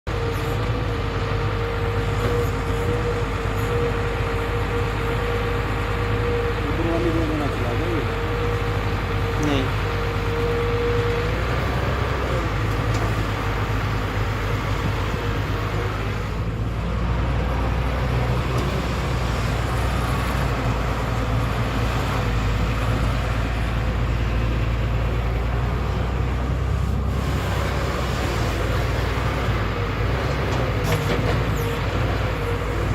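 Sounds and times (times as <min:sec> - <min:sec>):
excavator diesel engine running: 0:00.1 - 0:32.9.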